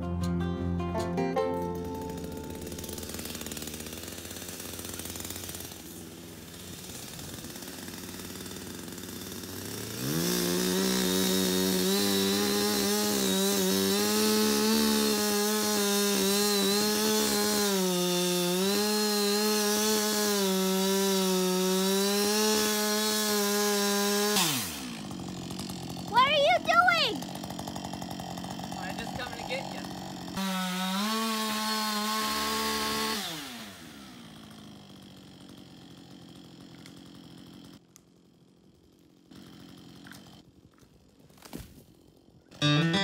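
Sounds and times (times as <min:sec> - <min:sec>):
chainsaw cutting wood: 0:01.0 - 0:43.0.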